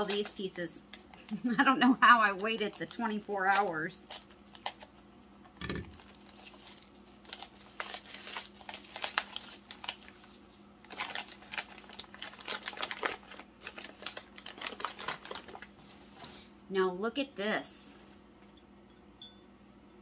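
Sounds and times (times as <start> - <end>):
packing paper crinkling: 0.0 - 16.5.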